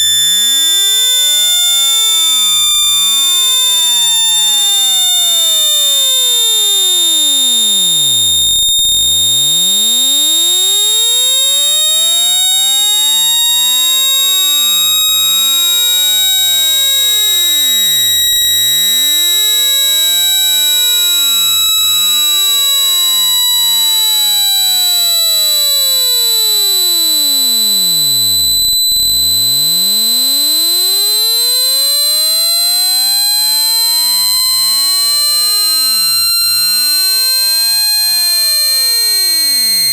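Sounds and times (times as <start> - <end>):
piercing high electronic tone: 0.0 - 39.9
sweeping electronic tones: 1.6 - 39.9.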